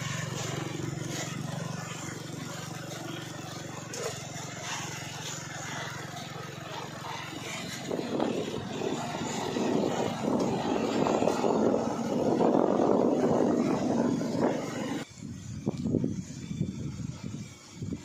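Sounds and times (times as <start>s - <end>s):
diesel truck engine pulling away: 0.0s - 15.1s.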